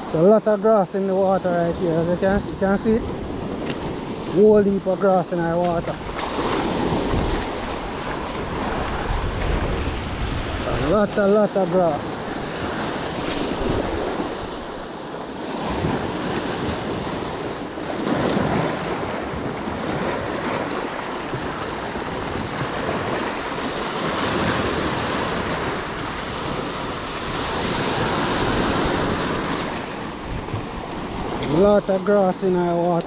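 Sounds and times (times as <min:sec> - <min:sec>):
surf washing over rocks: 0:00.0 - 0:33.0
wind on microphone: 0:01.2 - 0:33.0.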